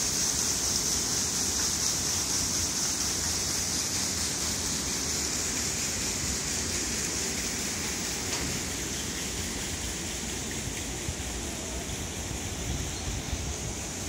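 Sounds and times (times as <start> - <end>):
water splashing at a waterwheel: 0.0 - 14.0.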